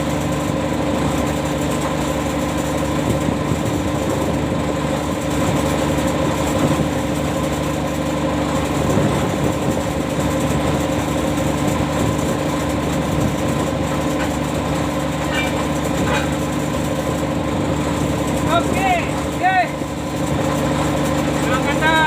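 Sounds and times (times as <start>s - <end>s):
anchor windlass machinery droning: 0.0s - 22.0s.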